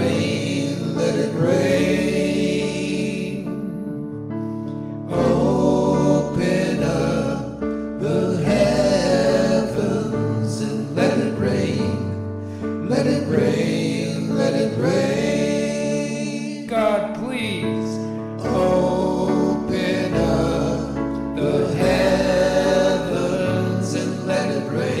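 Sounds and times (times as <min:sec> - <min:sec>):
choir singing gospel song: 0:00.0 - 0:03.9, 0:04.5 - 0:25.0.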